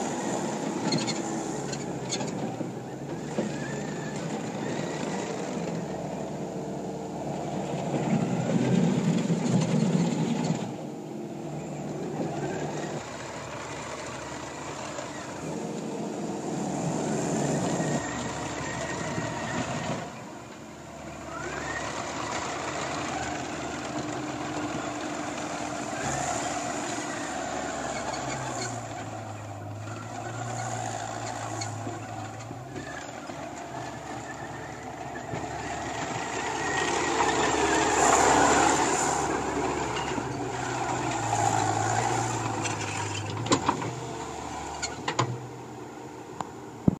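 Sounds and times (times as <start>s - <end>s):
track loader engine running: 0.0s - 46.9s.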